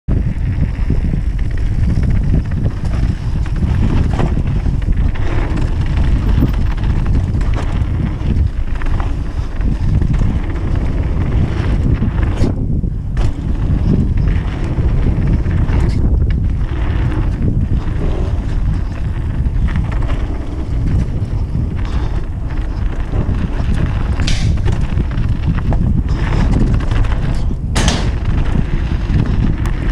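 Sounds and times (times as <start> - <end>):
bike clicks and rattles: 0.1 - 29.9
tyres on loose dirt: 0.1 - 29.9
wind buffeting microphone: 0.1 - 29.9.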